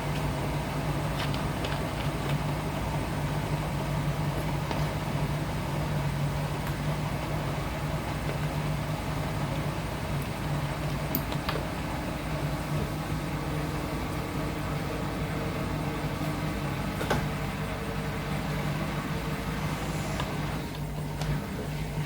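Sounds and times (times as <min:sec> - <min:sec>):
mechanical whir: 0:00.0 - 0:22.0
washing machine humming: 0:00.0 - 0:22.0.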